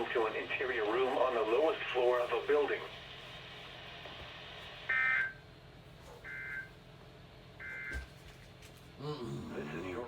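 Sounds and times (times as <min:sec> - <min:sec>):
faint radio hum and hiss: 0:00.0 - 0:10.0.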